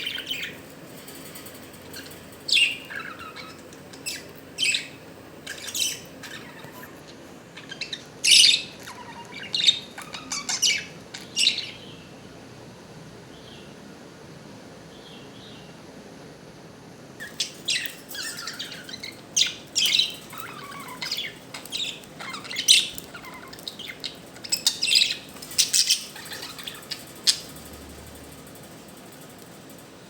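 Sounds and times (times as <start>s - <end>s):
budgerigars chirping and chattering: 0.0s - 12.0s, 17.2s - 29.5s.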